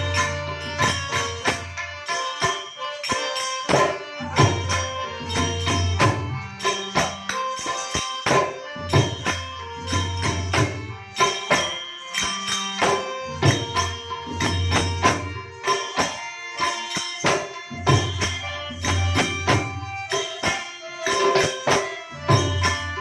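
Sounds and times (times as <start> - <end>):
jingling percussion: 0.0 - 23.0.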